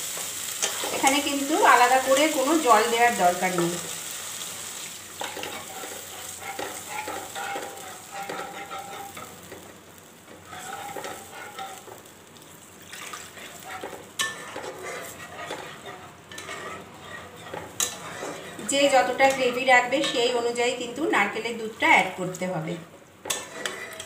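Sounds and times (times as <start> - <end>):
spatula scraping wok: 0.0 - 12.1, 12.9 - 20.5, 23.2 - 24.0
paste sizzling in frying: 0.0 - 24.0.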